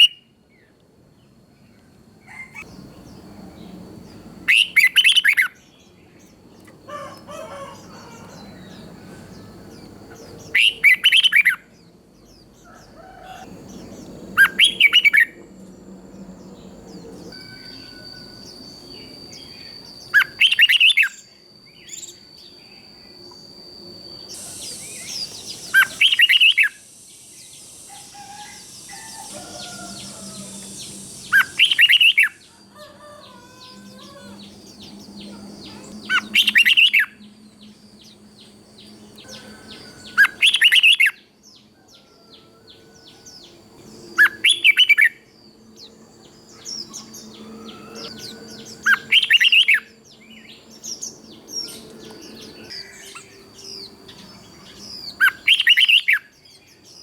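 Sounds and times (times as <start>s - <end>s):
bird singing loud song phrase: 0.0s - 57.0s
faint bird chirps: 0.0s - 57.0s.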